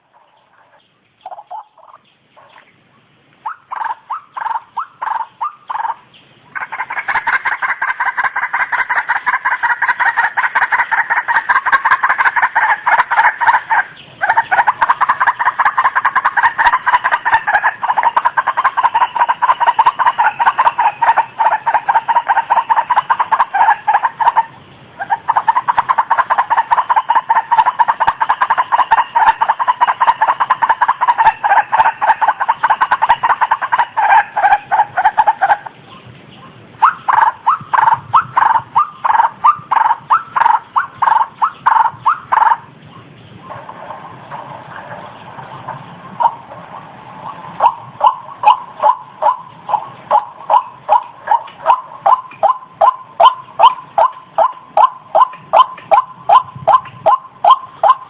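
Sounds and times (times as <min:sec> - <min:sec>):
waterhen croaking calls: 0:00.0 - 0:58.0.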